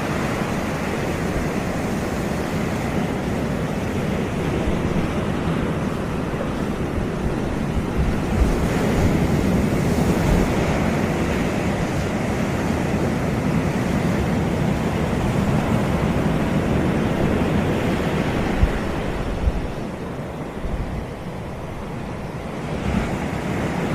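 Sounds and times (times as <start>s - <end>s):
sea waves washing onto beach: 0.0s - 23.9s
wind buffeting microphone: 0.0s - 23.9s.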